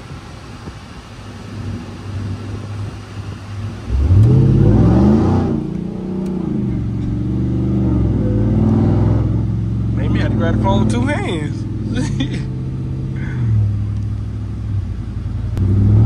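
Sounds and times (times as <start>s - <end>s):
pickup engine at full throttle: 0.0s - 16.0s.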